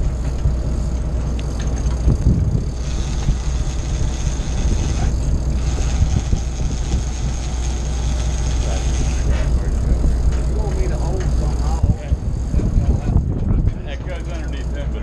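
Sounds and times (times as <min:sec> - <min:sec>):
water noise: 0:00.0 - 0:13.4
boat engine rumbling: 0:00.0 - 0:15.0
wind: 0:00.0 - 0:15.0.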